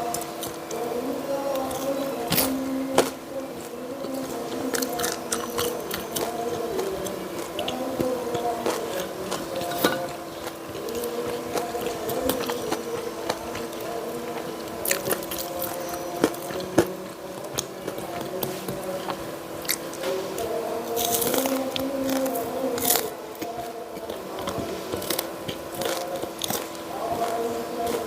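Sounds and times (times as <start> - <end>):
chewing crispy food: 0.0 - 28.0.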